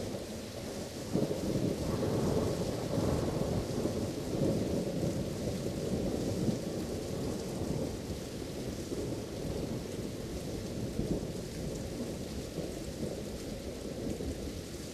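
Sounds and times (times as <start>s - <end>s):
rolling thunder rumble: 0.0s - 14.7s
steady rain: 0.0s - 14.9s.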